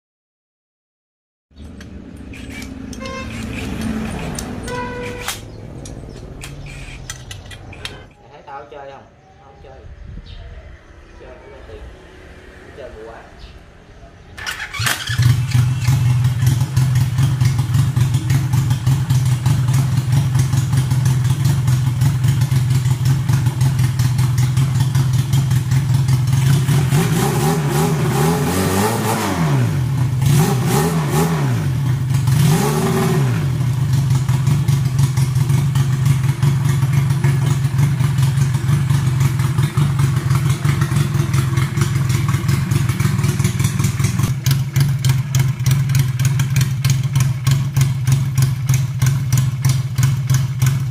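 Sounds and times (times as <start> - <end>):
engine idling and revving: 1.6 - 8.2, 14.3 - 50.9.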